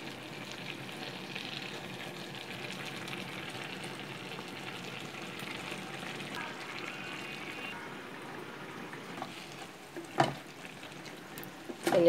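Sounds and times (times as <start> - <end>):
curry bubbling and sizzling: 0.0 - 12.0.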